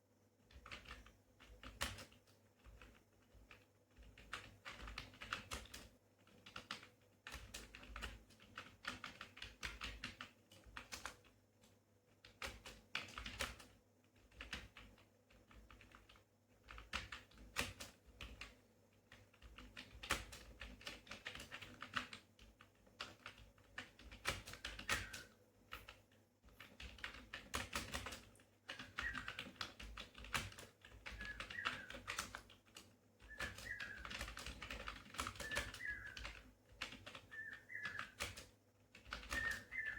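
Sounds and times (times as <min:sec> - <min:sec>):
keyboard typing: 0:00.5 - 0:11.4, 0:12.2 - 0:39.9.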